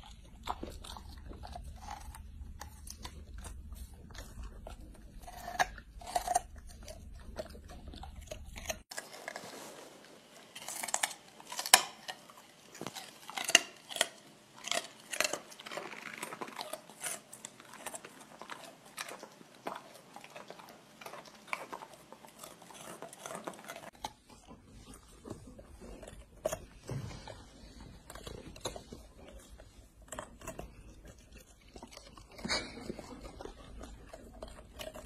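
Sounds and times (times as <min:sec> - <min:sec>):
dog crunching carrot: 0:00.0 - 0:35.0
low steady hum: 0:00.0 - 0:35.0.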